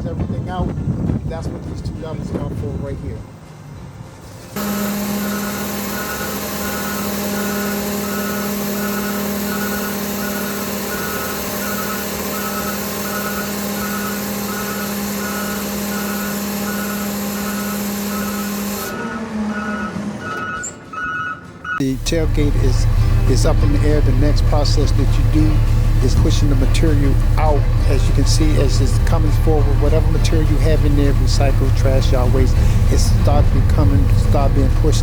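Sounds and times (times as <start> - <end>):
hydraulics humming: 0.0 - 35.0
warning alarm beeping: 4.6 - 20.8, 21.8 - 35.0.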